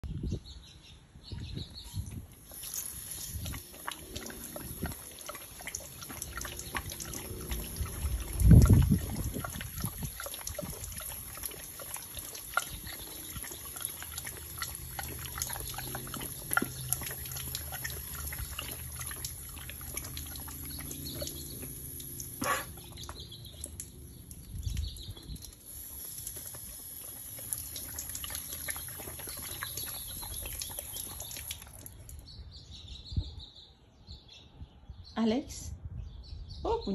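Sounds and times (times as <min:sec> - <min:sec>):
water spraying from hose: 0:02.4 - 0:32.1
dog lapping and slurping: 0:02.4 - 0:32.3.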